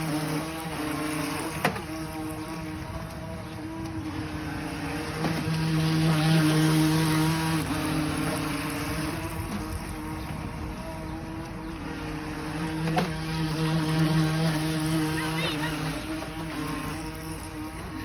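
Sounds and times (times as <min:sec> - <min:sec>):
toy boat electric motor whine: 0:00.0 - 0:18.0.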